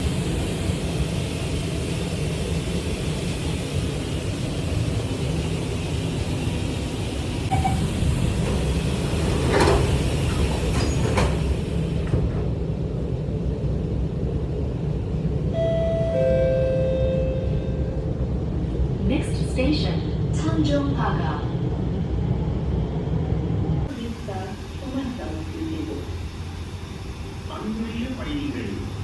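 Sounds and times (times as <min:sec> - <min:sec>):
train rumble under floor: 0:00.0 - 0:29.0.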